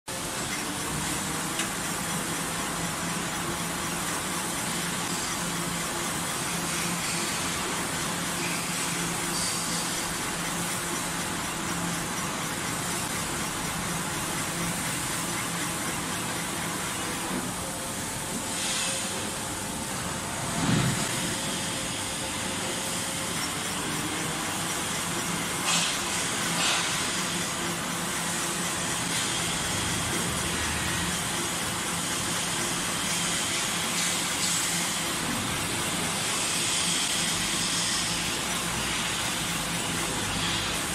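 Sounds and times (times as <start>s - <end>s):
metal spinning machine running: 0.1s - 40.9s.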